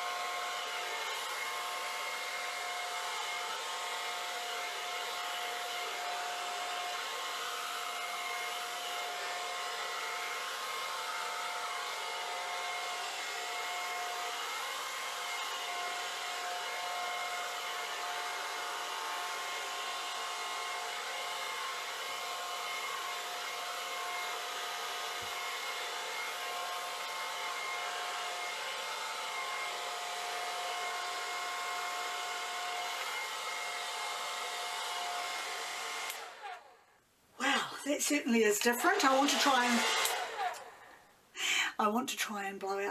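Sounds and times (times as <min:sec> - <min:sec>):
hair dryer running: 0:00.0 - 0:36.8, 0:37.4 - 0:41.8.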